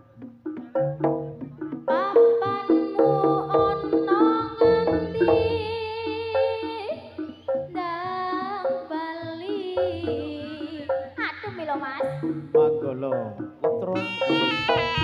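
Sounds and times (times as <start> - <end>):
struck percussion notes: 0.0 - 15.0.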